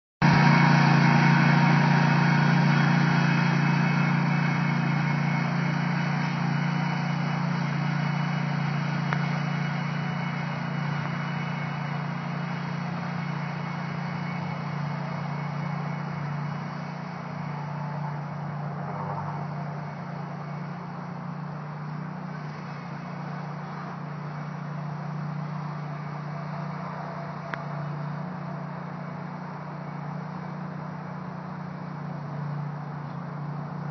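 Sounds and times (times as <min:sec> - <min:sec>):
lawn mower engine running: 0:00.2 - 0:33.9.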